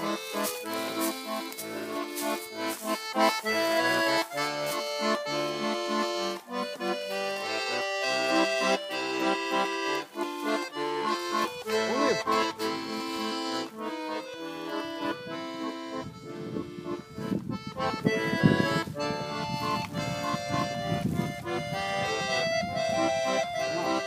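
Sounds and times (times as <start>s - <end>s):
button accordion playing chords: 0.0s - 24.0s.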